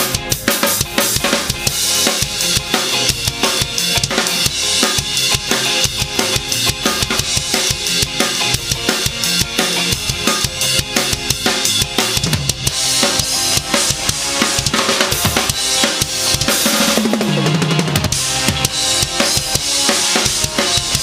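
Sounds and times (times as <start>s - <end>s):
drum kit groove: 0.0s - 21.0s
ska backing track: 0.0s - 21.0s.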